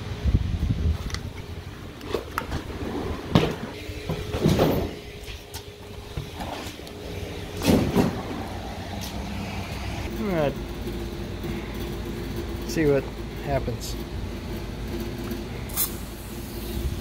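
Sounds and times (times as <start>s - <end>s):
steady low hum: 0.0s - 17.0s
car parts knocking and scraping: 1.0s - 15.8s.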